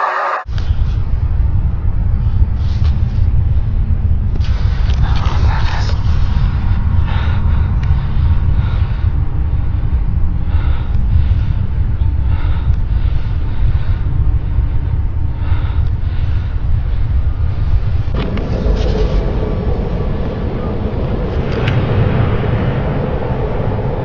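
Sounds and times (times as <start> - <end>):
deep low rumble: 0.0 - 24.0.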